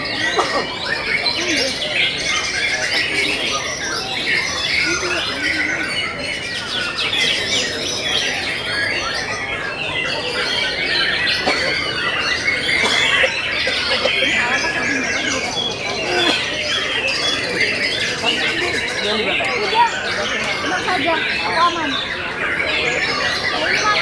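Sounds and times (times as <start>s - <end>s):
songbirds singing: 0.0s - 24.0s.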